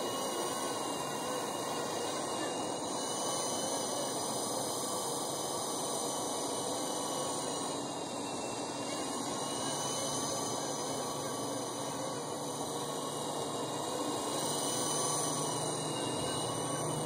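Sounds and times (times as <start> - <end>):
electric helicopter motor whine: 0.0 - 17.0
steady hiss: 0.0 - 17.0.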